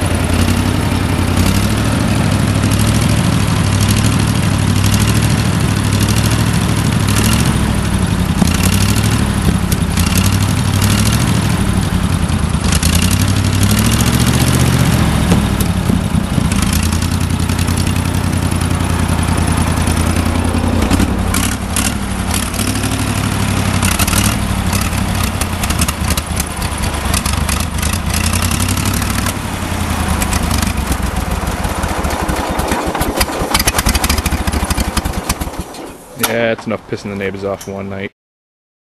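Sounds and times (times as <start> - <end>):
engine running unevenly: 0.0 - 37.3
engine pops and crackles: 0.0 - 37.8.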